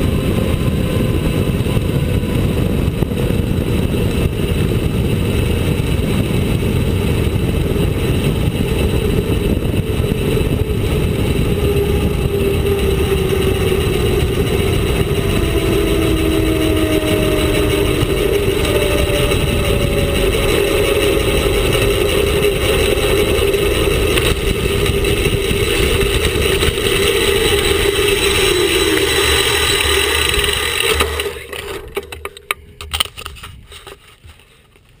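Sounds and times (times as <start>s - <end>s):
bike tyre hum: 0.0s - 35.0s
wind rush: 0.0s - 35.0s.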